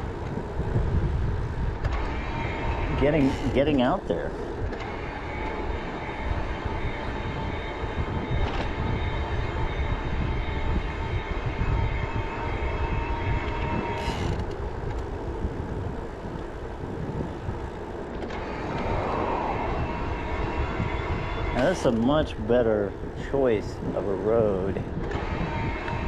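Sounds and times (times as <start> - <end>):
road noise: 0.0 - 26.0
steady thin whine: 0.0 - 26.0
wind rumbling on microphone: 0.0 - 26.0.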